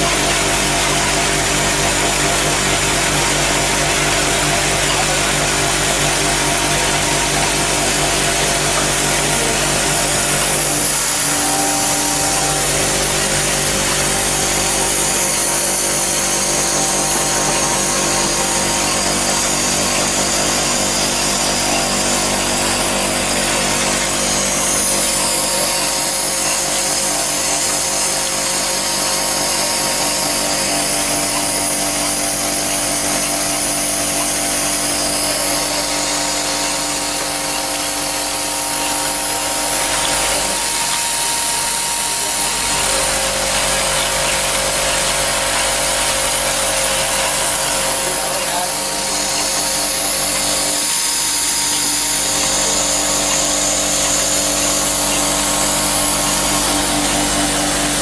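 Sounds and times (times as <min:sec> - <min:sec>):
machine buzz: 0:00.0 - 0:58.0.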